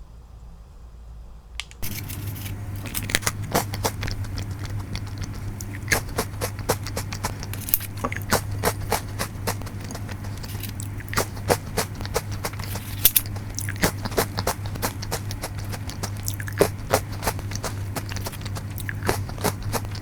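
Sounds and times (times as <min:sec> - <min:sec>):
low steady hum: 0:00.0 - 0:20.0
cookie crunching: 0:01.8 - 0:20.0.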